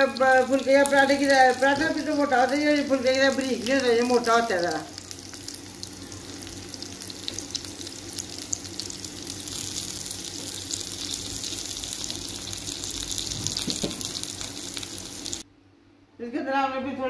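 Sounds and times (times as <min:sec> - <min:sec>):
batter sizzling in oil: 0:00.0 - 0:15.4.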